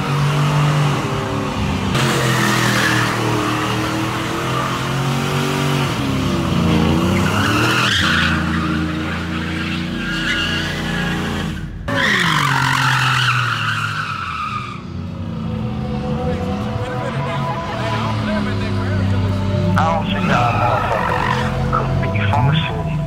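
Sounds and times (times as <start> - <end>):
engine revving: 0.0 - 23.0
tires squealing: 0.0 - 23.0.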